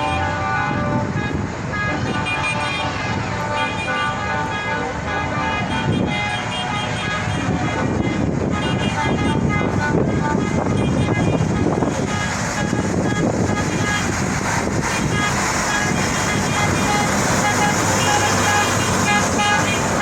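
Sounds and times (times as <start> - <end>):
horns tooting: 0.0 - 20.0
tractor engines driving past: 0.0 - 20.0.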